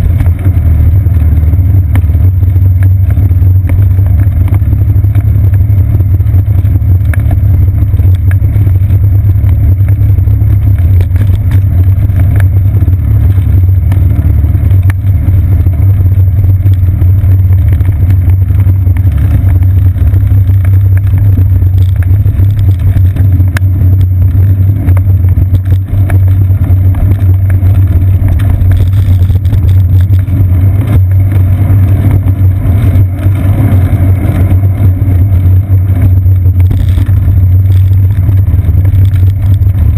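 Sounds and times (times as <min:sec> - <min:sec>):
bicycle tyre and frame rumble: 0:00.0 - 0:39.9.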